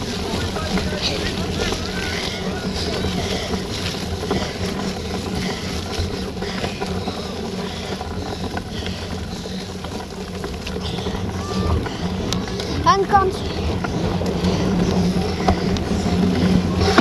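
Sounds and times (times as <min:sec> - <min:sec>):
tyres rolling over mud: 0:00.0 - 0:17.0
wind rumble on microphone: 0:00.0 - 0:17.0.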